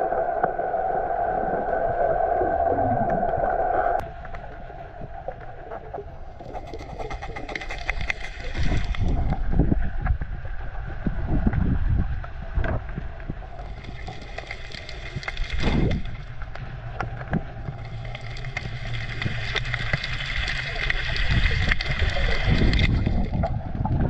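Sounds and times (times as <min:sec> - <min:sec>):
underwater clicks and crackles: 0:00.0 - 0:24.0
underwater rumble of moving water: 0:00.0 - 0:24.0.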